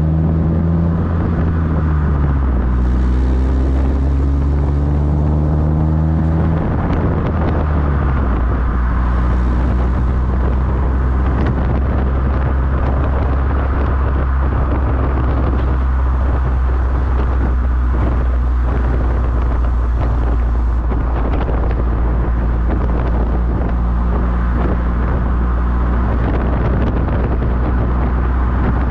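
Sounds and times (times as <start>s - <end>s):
car exhaust drone: 0.0s - 28.9s
wind and road rush: 0.0s - 28.9s.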